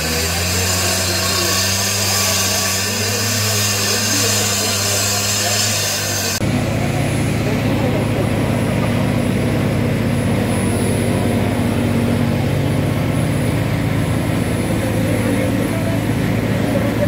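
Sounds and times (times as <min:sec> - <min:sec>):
engine droning steadily: 0:00.0 - 0:17.0.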